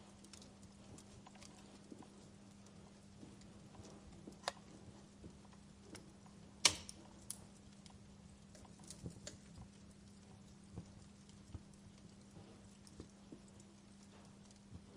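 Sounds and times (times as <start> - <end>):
faint steady hum: 0.0 - 14.9
wood fire crackling: 0.0 - 14.9.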